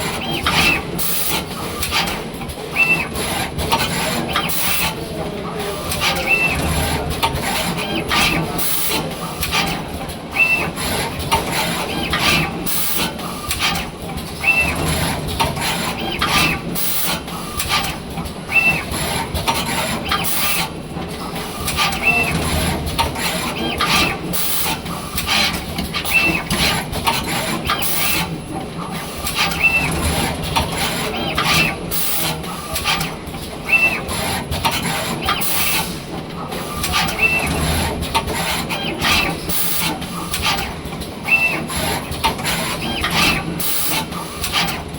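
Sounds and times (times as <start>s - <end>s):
machine mechanical whir: 0.1s - 44.9s.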